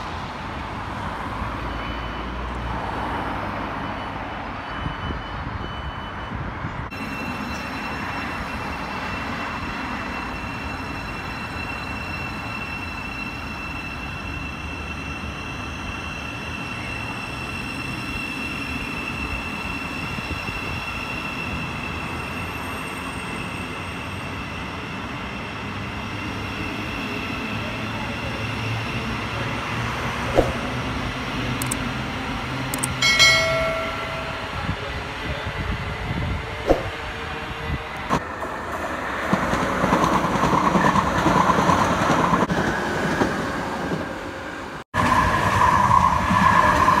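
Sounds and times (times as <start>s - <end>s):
train rumbling along platform: 0.0s - 47.0s.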